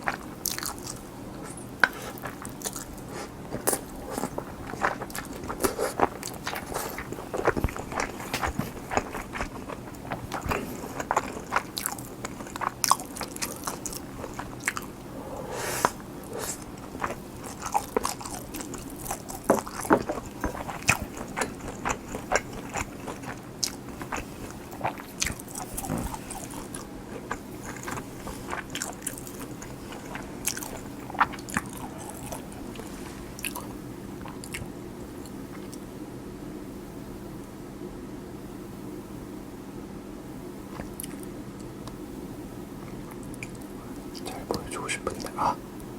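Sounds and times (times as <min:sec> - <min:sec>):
crunchy chewing: 0:00.0 - 0:35.9, 0:40.7 - 0:42.0, 0:42.8 - 0:45.9.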